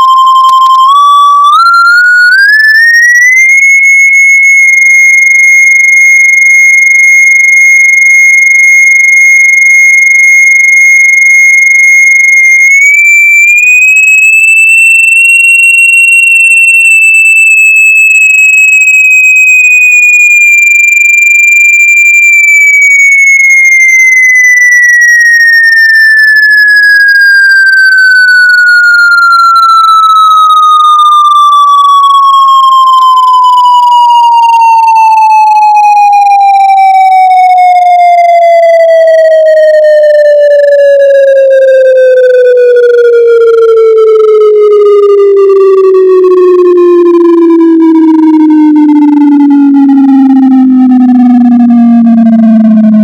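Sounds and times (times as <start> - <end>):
sine wave tone gliding down: 0.0 - 6.7, 9.0 - 53.0.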